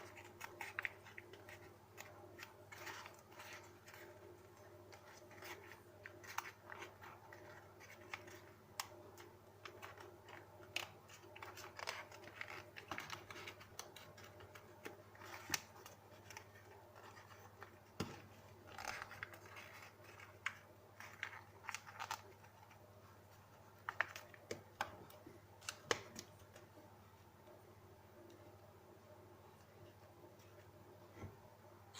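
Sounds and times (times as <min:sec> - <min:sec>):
paper crinkling and rustling: 0:00.0 - 0:26.9.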